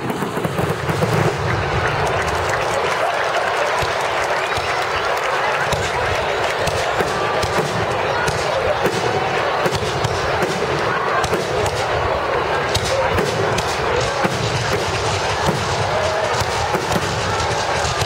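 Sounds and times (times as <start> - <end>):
crowd talking: 0.0 - 18.0
fireworks popping and crackling: 0.0 - 18.0.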